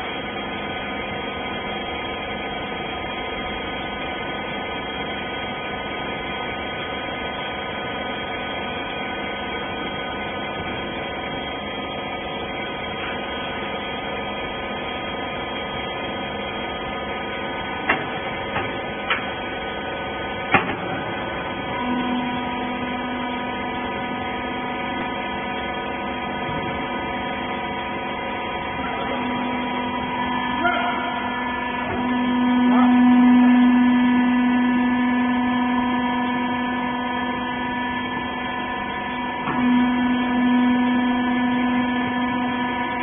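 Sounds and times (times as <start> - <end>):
hydraulic baler motor humming: 0.0 - 43.0.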